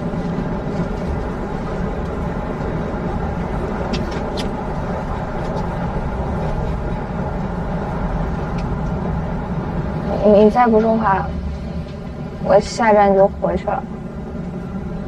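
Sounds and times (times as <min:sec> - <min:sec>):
vehicle cabin rumble: 0:00.0 - 0:15.0.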